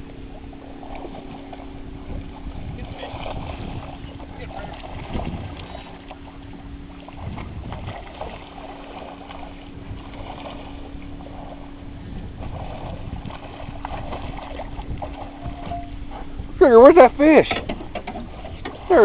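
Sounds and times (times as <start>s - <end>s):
steady low hum: 0.0s - 19.0s
water splashing and sloshing: 0.0s - 19.0s.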